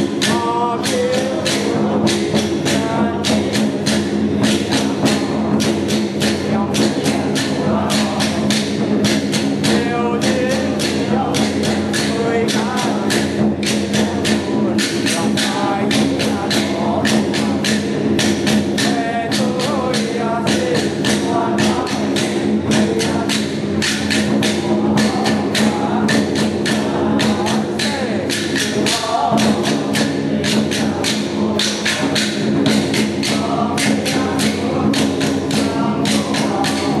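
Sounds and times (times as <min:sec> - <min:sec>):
drums gongs and cymbals beating: 0:00.0 - 0:37.0.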